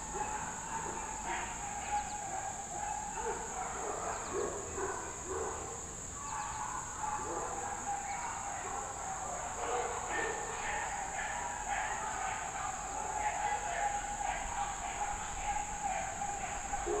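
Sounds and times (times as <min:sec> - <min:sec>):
dog barking and yipping: 0:00.1 - 0:05.6, 0:06.3 - 0:17.0.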